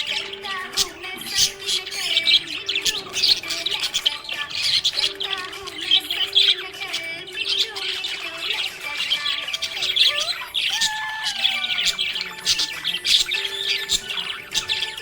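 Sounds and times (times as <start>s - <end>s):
budgerigar squawk: 0.0s - 15.0s
budgerigars chirping and warbling: 0.0s - 15.0s.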